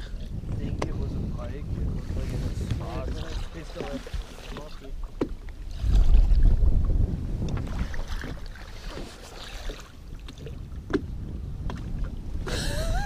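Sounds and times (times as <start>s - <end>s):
water lapping against boat hull: 0.0s - 13.0s
wind buffeting microphone: 0.0s - 13.0s.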